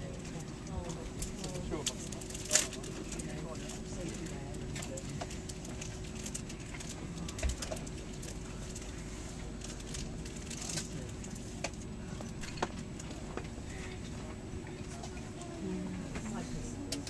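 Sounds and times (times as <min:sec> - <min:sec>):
train carriage hum: 0:00.0 - 0:17.0.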